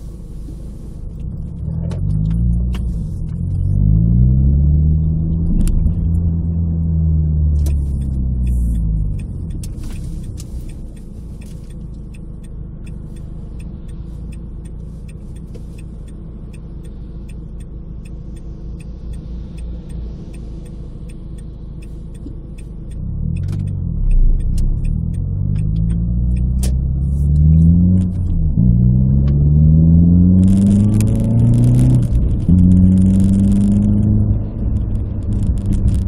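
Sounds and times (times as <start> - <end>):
car engine revving: 0.0 - 36.0
road rumble: 0.0 - 36.0.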